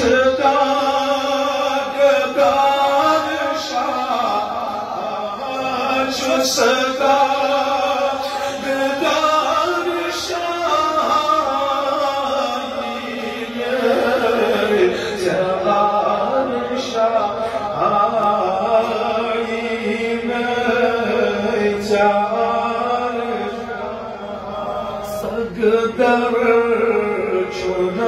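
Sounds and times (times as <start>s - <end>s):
man singing devotional song: 0.0s - 28.0s.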